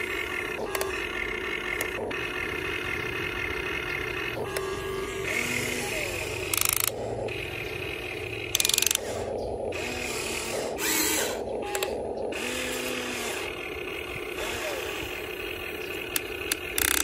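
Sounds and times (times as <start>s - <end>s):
electric motors whirring: 0.0s - 17.0s
ratchet-like buzz: 0.0s - 17.0s.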